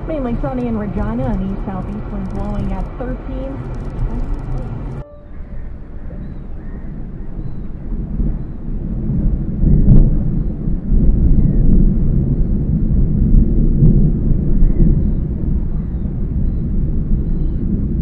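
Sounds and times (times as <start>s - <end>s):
thunder crack: 0.0s - 18.0s
thunder rumbling: 0.0s - 18.0s.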